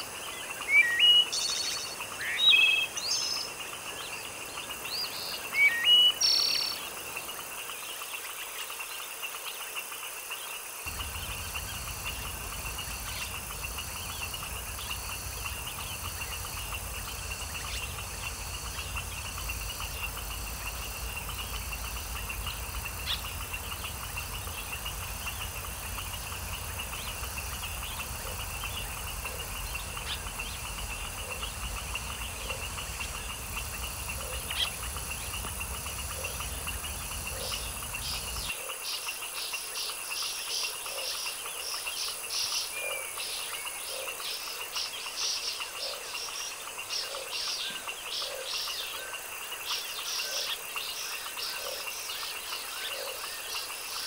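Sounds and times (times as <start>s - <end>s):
crickets trilling: 0.0s - 54.0s
faint frog calls: 0.0s - 54.0s.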